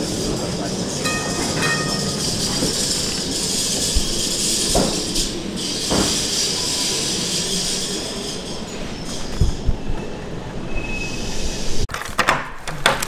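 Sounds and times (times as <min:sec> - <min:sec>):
wheels hissing on track: 0:00.0 - 0:11.9.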